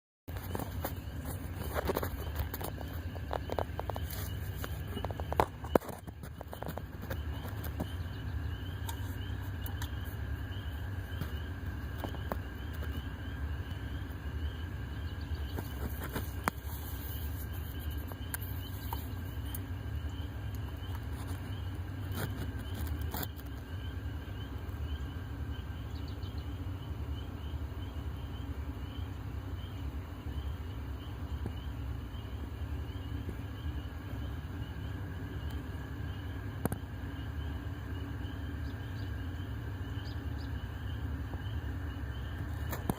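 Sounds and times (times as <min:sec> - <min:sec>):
insects chirping: 0:00.3 - 0:42.9.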